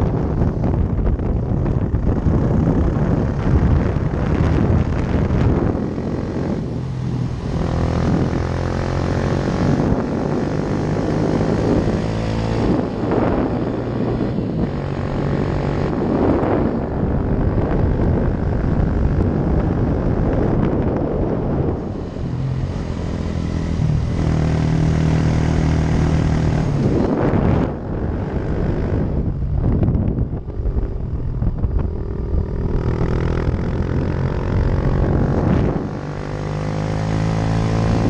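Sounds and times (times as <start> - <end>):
motorcycle engine pulling uphill: 0.0 - 38.0
wind noise on microphone: 0.0 - 38.0.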